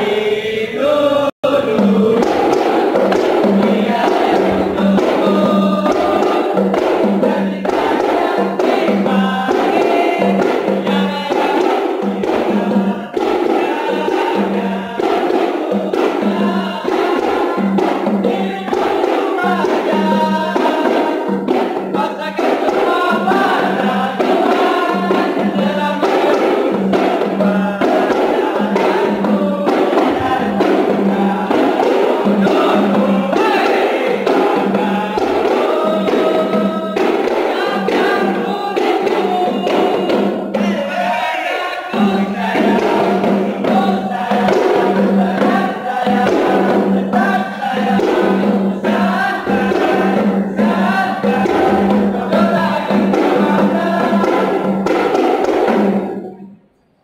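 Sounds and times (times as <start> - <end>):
men chanting in unison: 0.0 - 56.5
frame drums beating: 1.4 - 56.5.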